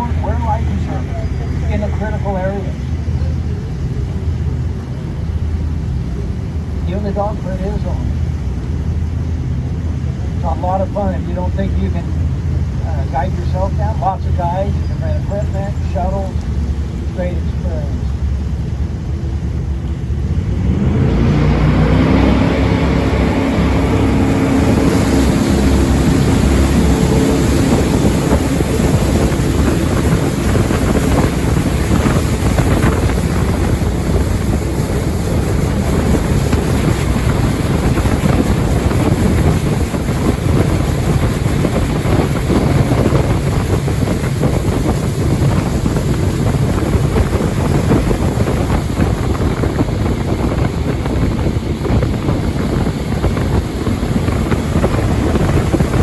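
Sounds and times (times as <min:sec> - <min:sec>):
jet boat engine: 0:00.0 - 0:56.0
water rushing: 0:00.0 - 0:56.0
wind buffeting microphone: 0:00.0 - 0:56.0.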